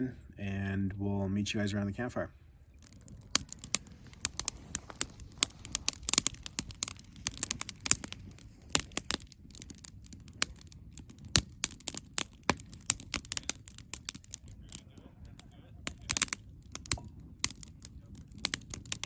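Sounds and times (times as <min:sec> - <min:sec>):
campfire crackling: 0:02.5 - 0:19.0.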